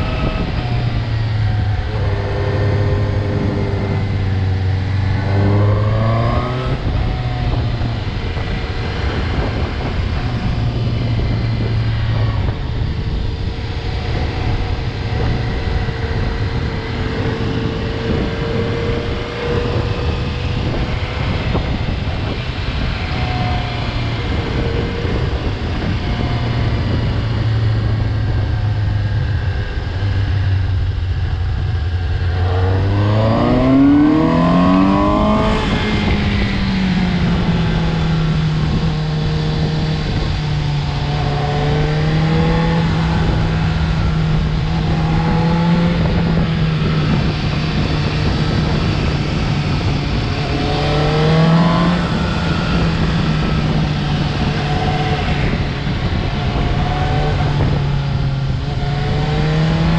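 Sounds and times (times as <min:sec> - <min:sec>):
motorcycle engine revving: 0:00.0 - 0:59.9
road noise: 0:00.0 - 0:59.9
wind noise: 0:00.0 - 0:59.9.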